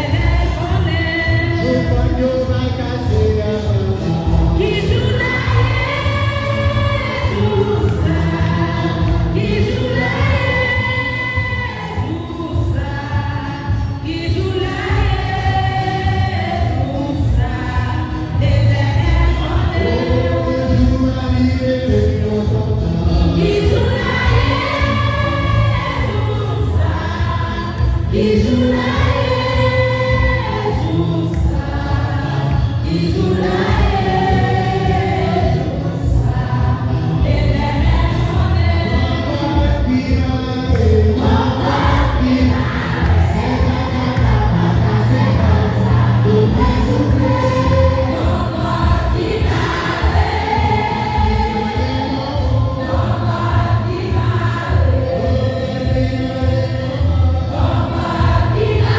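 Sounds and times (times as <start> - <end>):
choir singing a hymn: 3.3 - 58.9.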